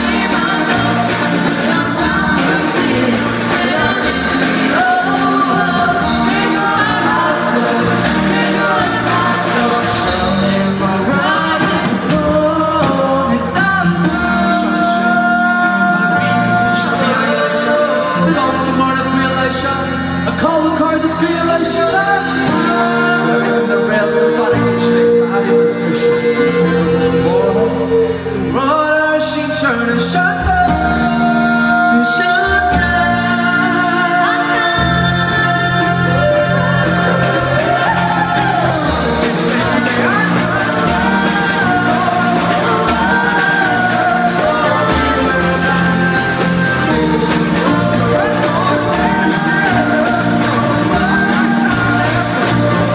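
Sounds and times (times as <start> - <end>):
bass line: 0.0 - 52.9
live band playing: 0.0 - 52.9
person singing lead vocal: 0.0 - 52.9.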